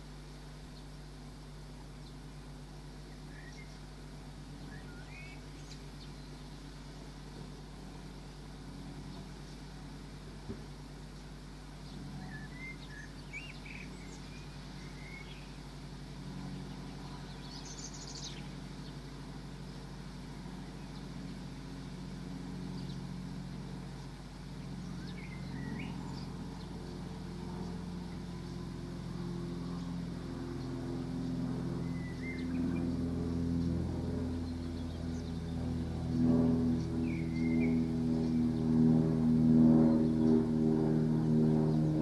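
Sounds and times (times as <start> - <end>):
low droning hum: 0.0 - 42.0
small birds chirping: 0.6 - 38.9.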